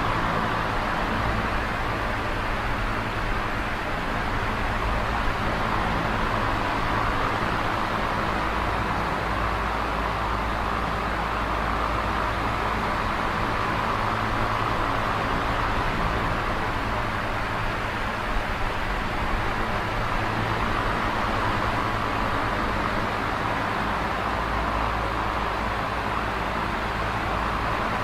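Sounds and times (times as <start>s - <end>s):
box fan rushing air: 0.0s - 28.0s
fan motor hum: 0.0s - 28.0s.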